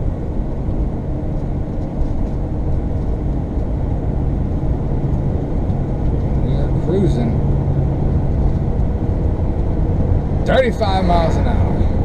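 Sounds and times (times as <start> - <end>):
road rumble: 0.0 - 12.0
vehicle engine hum: 0.0 - 12.0.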